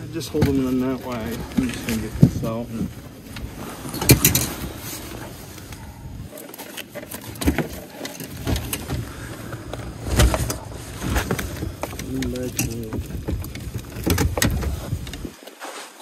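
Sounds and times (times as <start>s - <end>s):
gloves and jacket rustling: 0.0s - 16.0s.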